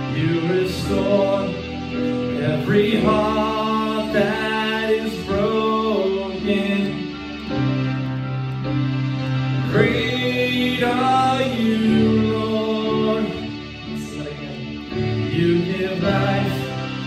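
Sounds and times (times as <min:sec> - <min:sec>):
electric keyboard chords: 0:00.0 - 0:17.0.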